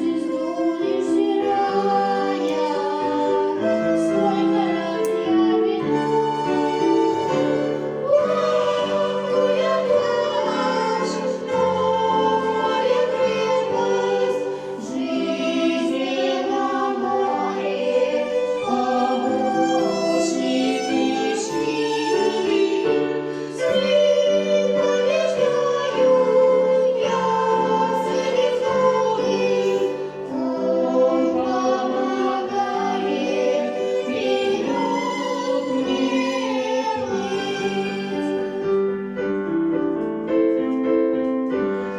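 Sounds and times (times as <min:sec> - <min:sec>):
children's choir singing: 0:00.0 - 0:41.9
keyboard accompaniment: 0:00.0 - 0:41.9.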